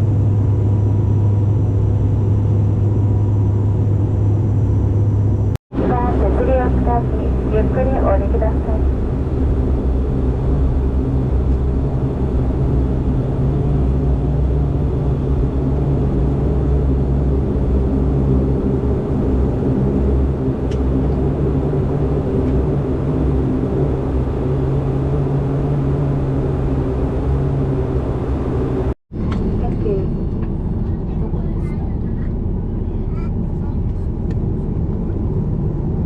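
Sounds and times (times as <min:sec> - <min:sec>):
vehicle engine drone: 0:00.0 - 0:36.0.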